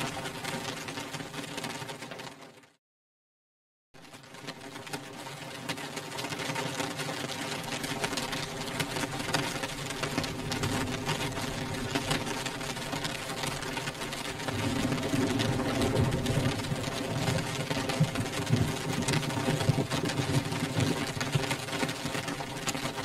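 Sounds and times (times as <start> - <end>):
rain pattering on a window: 0.0 - 2.8, 4.0 - 23.0.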